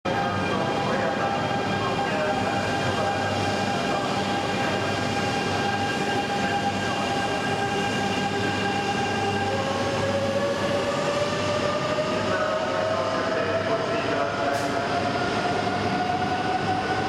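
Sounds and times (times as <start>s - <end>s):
high-speed train approaching: 0.1s - 17.0s.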